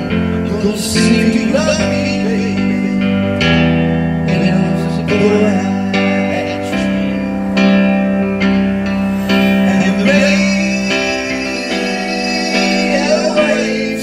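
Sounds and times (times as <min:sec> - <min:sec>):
person singing: 0:00.0 - 0:03.6, 0:04.2 - 0:07.7, 0:09.3 - 0:14.0
electric keyboard piano chords: 0:00.0 - 0:14.0.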